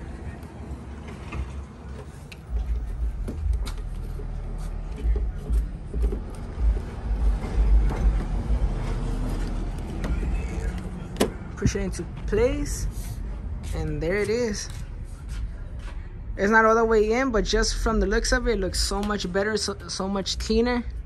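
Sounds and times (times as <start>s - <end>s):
low rumble: 2.5s - 21.0s.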